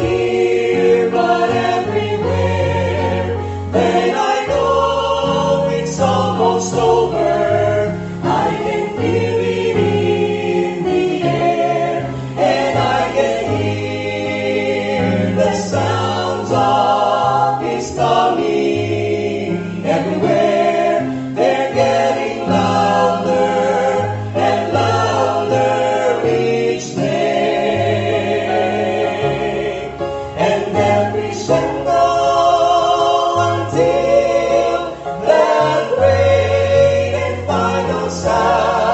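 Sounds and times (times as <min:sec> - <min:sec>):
vocal quartet singing in harmony: 0:00.0 - 0:38.9.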